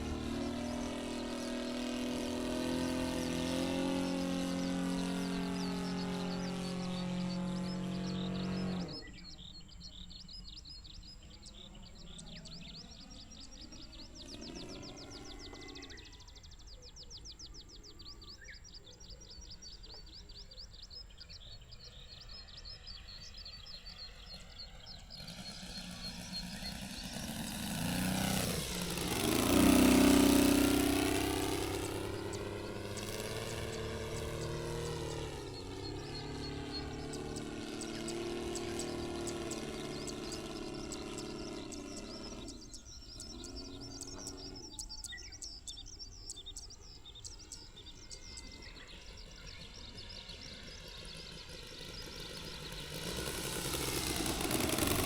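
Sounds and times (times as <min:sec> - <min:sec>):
birds chirping: 0:00.0 - 0:55.0
model airplane engine droning: 0:00.0 - 0:55.0.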